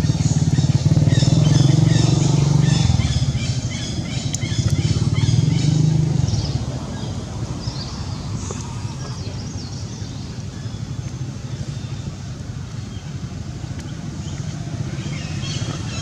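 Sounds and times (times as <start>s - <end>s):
motor engine running: 0.0s - 16.0s.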